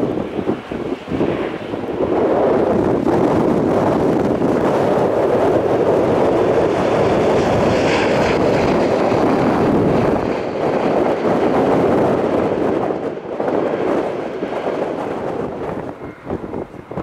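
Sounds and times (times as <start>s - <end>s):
high-pitched engine whine: 0.0s - 17.0s
jet engines roaring: 0.0s - 17.0s
wind buffeting microphone: 0.0s - 17.0s.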